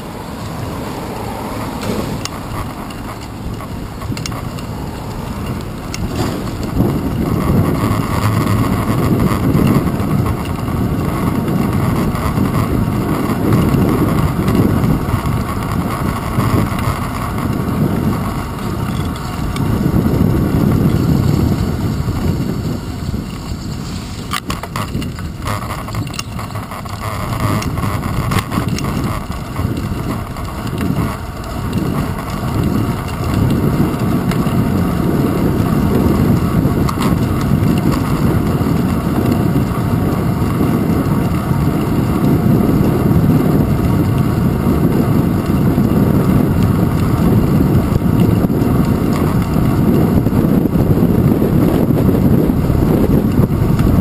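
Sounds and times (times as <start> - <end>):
bicycle road rumble: 0.0 - 54.0
sharp clicks and rattles: 0.0 - 54.0
wind buffeting: 0.0 - 54.0.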